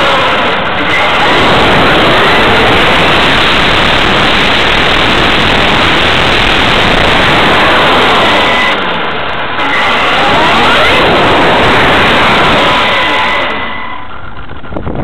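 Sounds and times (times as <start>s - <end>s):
electric motor whine: 0.0s - 14.5s
wind and tyre noise: 0.0s - 15.0s.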